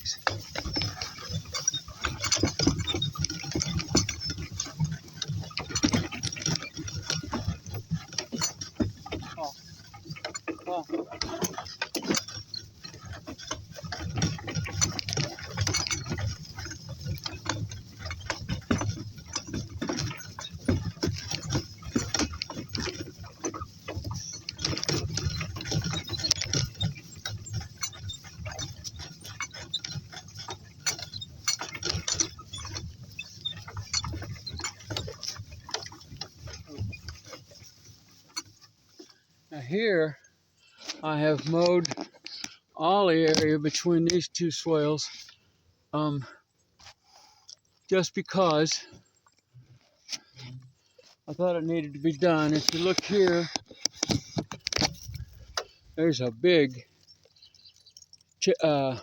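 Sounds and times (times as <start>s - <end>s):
cart rattling over rough ground: 0.0s - 59.0s.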